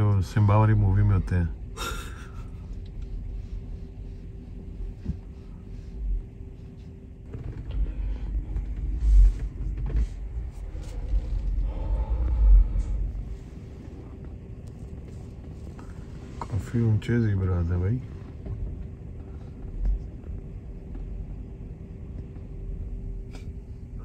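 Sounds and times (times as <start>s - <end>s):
car cabin rumble: 0.0s - 24.0s
engine hum: 0.0s - 24.0s.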